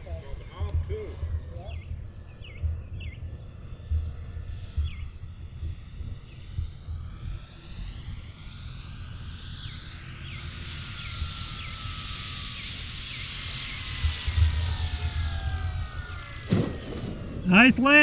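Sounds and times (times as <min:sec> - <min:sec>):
model plane motor whining: 0:00.0 - 0:18.0.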